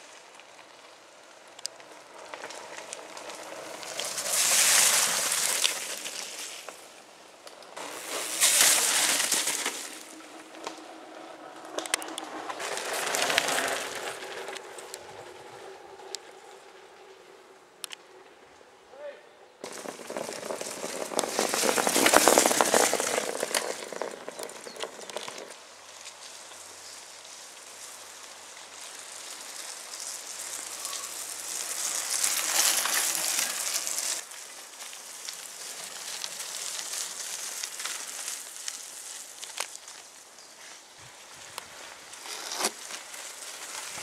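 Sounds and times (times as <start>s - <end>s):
bike tyres crunching on gravel: 0.0s - 44.0s.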